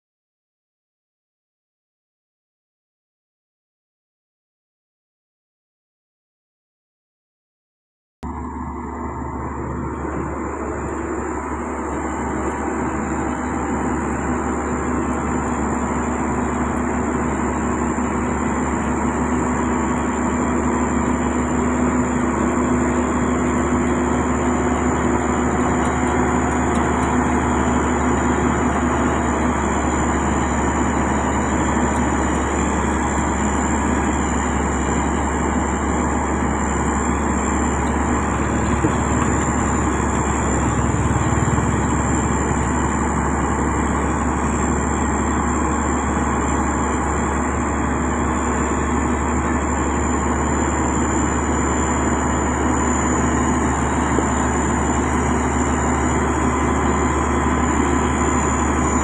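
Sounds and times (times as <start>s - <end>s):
diesel engine running: 8.3s - 59.0s
thin high whine: 8.3s - 59.0s.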